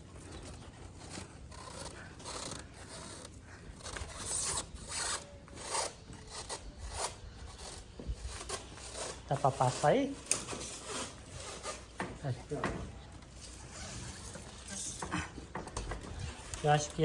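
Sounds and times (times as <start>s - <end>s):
refrigerator scraping and rubbing: 0.0s - 17.0s.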